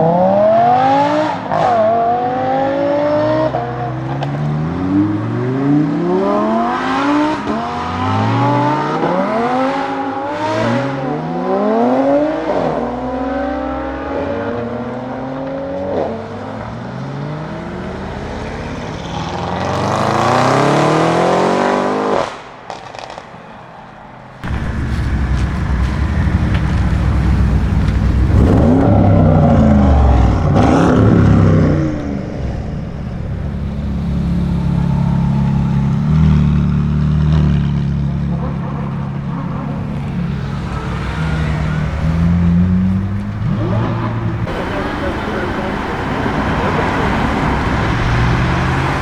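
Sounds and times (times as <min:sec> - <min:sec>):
car engine accelerating hard: 0:00.0 - 0:23.2, 0:24.4 - 0:49.0.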